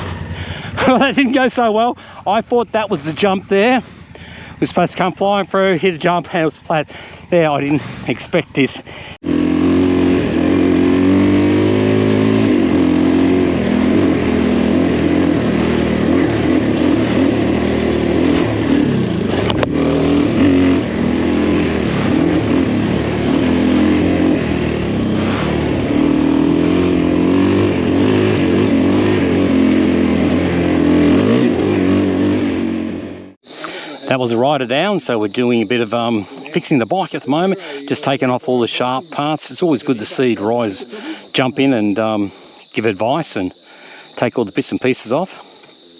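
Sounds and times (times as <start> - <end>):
motorcycle engine revving: 0.0 - 45.3.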